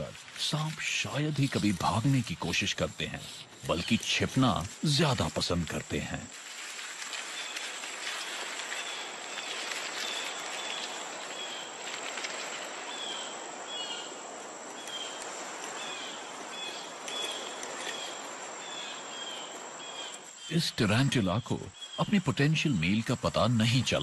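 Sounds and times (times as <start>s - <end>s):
insects chirping: 0.0s - 24.0s
steady hiss: 0.0s - 24.0s
high-pitched insect trill: 0.9s - 24.0s.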